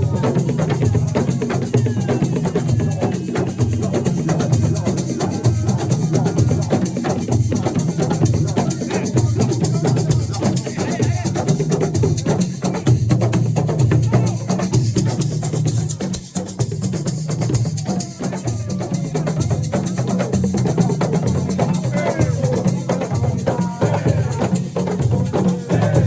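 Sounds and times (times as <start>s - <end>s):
voices: 0.0s - 15.2s, 17.3s - 26.0s
drums and rattling shakers: 0.0s - 26.0s.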